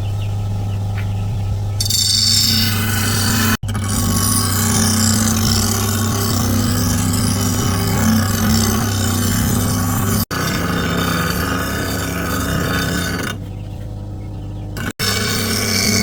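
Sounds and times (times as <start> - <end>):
power tool grinding: 1.8 - 16.0.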